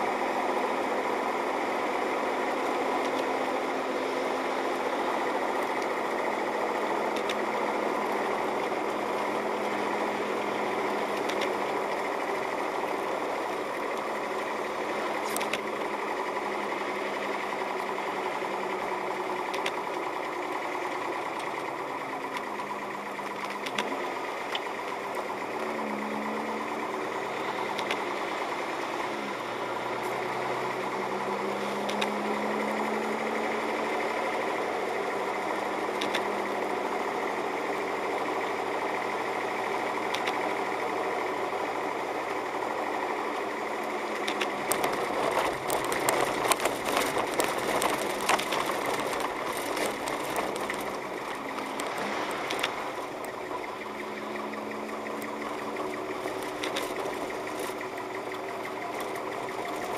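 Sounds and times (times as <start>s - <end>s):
car engine from inside cabin: 0.0s - 59.9s
tyres on snow: 0.0s - 59.9s.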